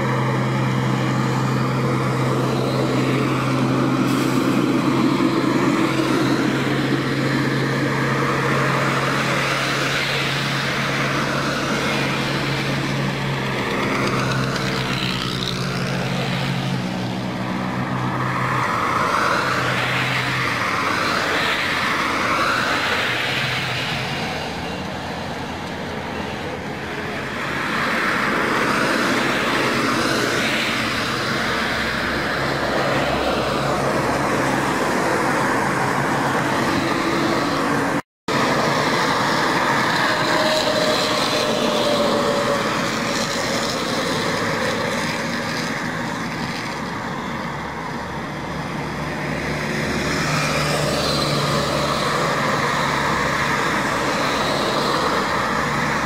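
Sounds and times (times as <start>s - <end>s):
highway traffic: 0.0s - 56.0s.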